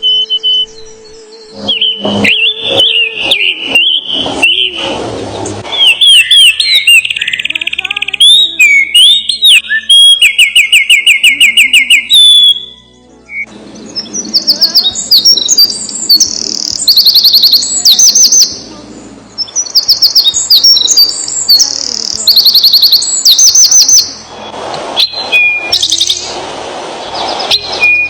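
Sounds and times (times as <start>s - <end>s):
small birds singing: 0.0s - 26.4s, 27.0s - 28.0s.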